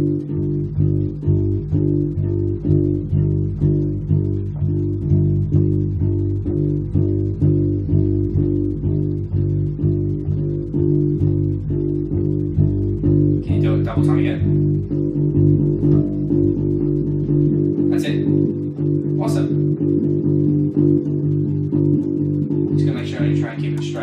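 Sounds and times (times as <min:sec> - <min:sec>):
electric bass guitar plucking low note: 0:00.0 - 0:24.0.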